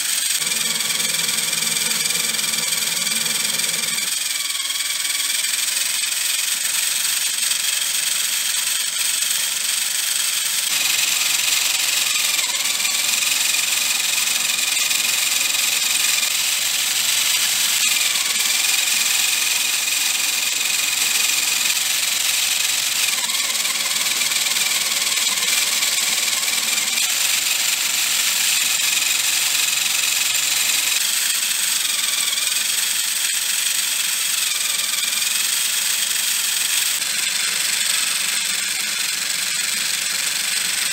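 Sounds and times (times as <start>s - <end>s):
electric motor whining: 0.0s - 40.9s
plastic gears whirring: 0.0s - 40.9s.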